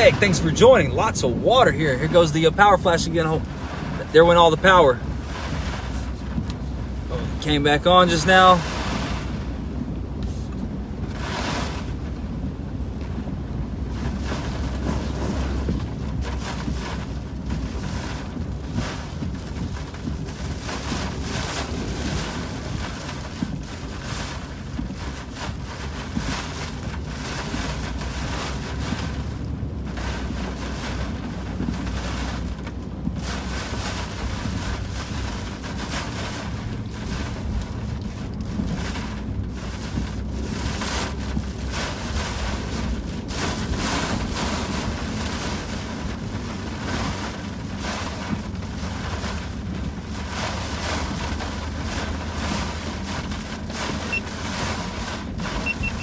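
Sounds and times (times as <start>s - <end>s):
low steady rumble: 0.0s - 56.0s
wind and rain buffeting car: 0.0s - 56.0s.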